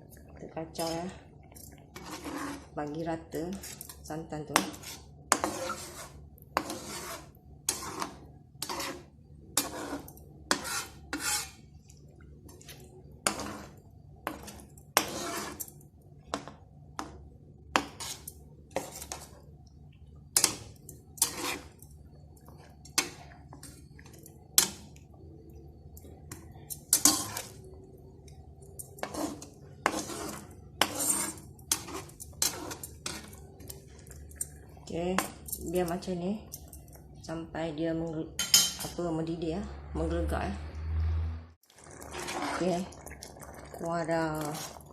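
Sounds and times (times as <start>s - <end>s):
utensil scraping and clinking pot: 0.0s - 11.7s, 12.5s - 19.5s, 20.3s - 25.1s, 25.9s - 37.1s, 38.4s - 39.1s, 41.8s - 44.9s
steady low hum: 0.0s - 41.0s.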